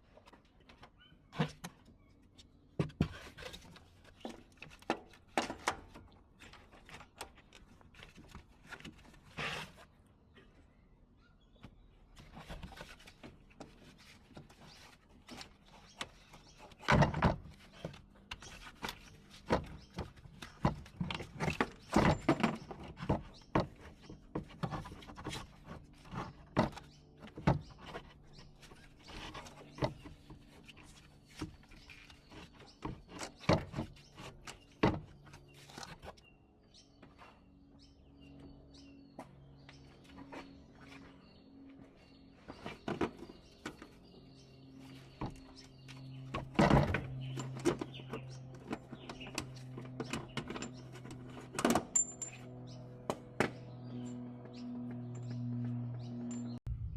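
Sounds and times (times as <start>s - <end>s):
hand tools and metal parts clunking: 0.1s - 10.6s, 11.6s - 36.3s, 41.9s - 56.7s.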